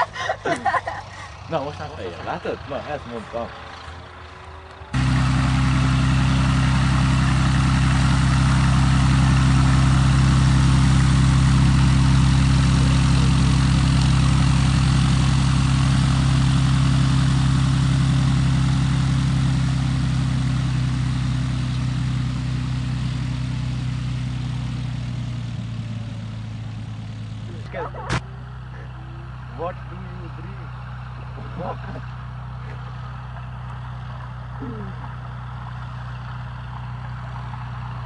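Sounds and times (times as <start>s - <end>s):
propeller plane engine drone: 0.0s - 38.0s.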